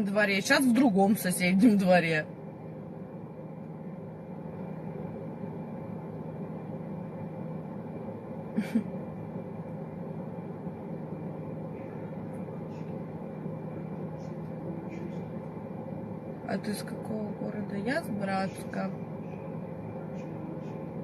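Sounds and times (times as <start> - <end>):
car cabin engine hum: 0.0 - 21.0.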